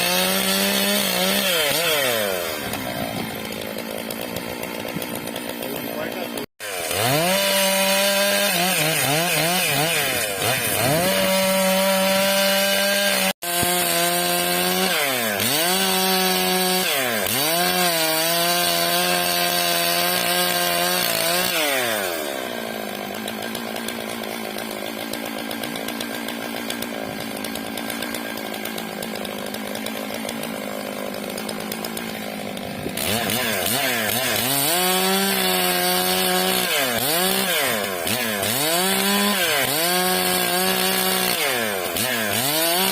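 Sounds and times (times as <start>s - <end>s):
chainsaw cutting a log: 0.0s - 42.9s.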